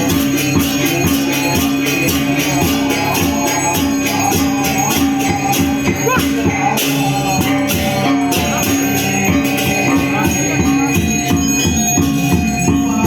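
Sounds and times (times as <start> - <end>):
cymbals clashing: 0.0 - 13.0
gamelan bronze instruments ringing: 0.0 - 13.0.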